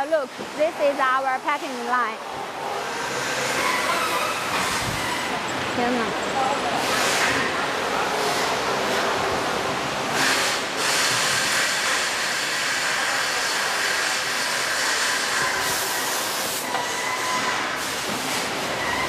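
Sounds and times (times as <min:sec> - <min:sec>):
hissing factory noise: 0:00.0 - 0:19.0.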